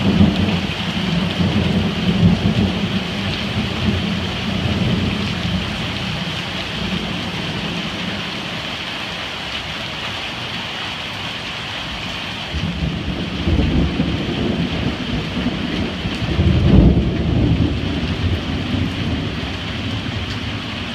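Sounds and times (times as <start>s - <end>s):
heavy rain on paving: 0.0s - 20.9s
running runoff water: 0.0s - 20.9s.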